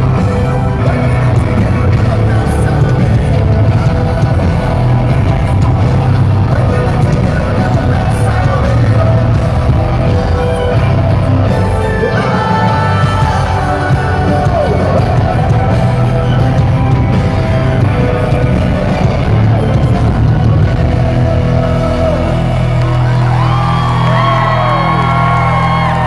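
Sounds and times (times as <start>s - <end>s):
man singing lead vocal: 0.0s - 26.0s
rock band playing loud: 0.0s - 26.0s.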